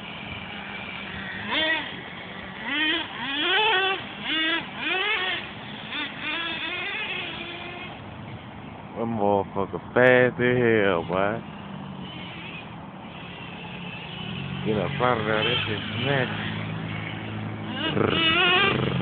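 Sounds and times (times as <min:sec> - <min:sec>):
remote-control car motor revving: 0:00.0 - 0:08.4, 0:10.9 - 0:19.0
street noise: 0:00.0 - 0:19.0.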